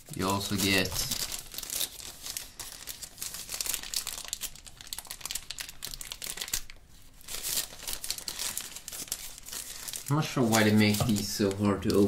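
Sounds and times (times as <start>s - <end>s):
paper wrapper crinkling: 0.0s - 12.0s.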